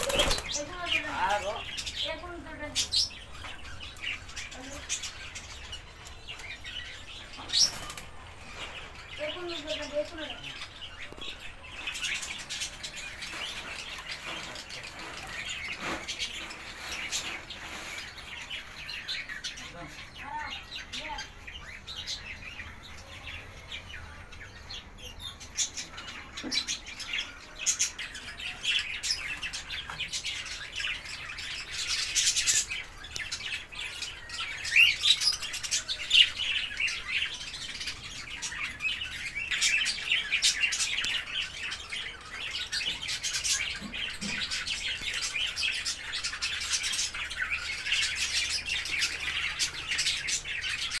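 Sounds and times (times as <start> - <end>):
parrots chirping and chattering: 0.0 - 51.0.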